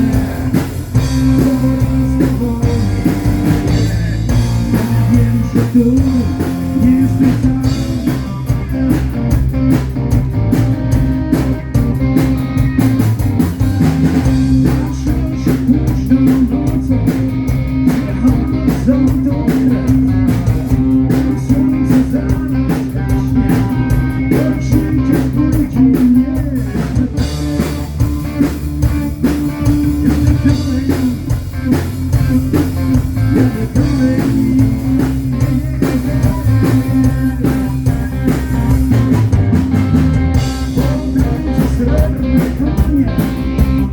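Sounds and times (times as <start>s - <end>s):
bass: 0.0s - 43.9s
drum kit: 0.0s - 43.9s
electric guitar: 0.0s - 43.9s.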